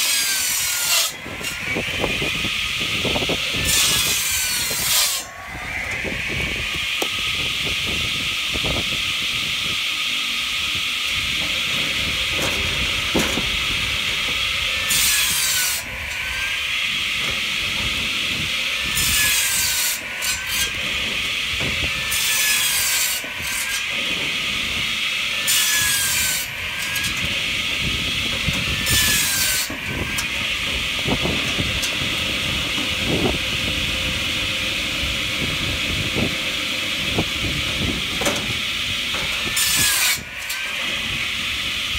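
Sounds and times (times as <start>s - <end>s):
circular saw cutting logs: 0.0s - 41.9s.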